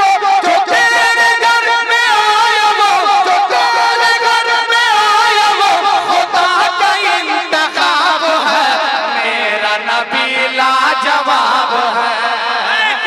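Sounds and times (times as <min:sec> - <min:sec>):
men singing devotional song: 0:00.0 - 0:13.0.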